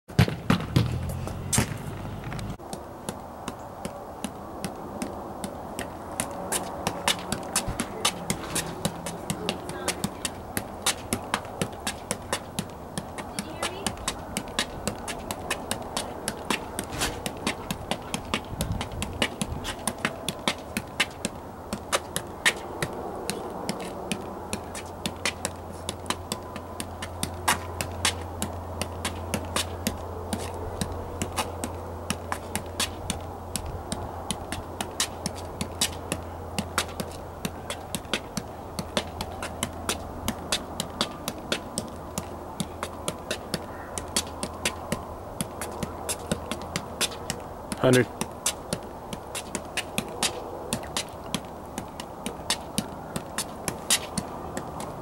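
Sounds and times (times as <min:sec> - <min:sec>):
foot tapping soccer ball: 0:00.1 - 0:55.0.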